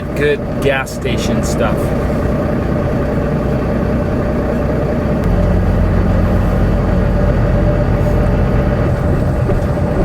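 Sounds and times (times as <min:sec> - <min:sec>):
truck engine drone in cab: 0:00.0 - 0:10.0.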